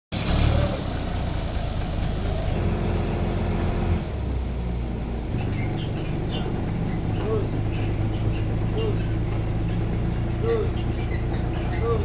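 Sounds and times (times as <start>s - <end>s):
heavy engine low rumble: 0.1s - 12.0s.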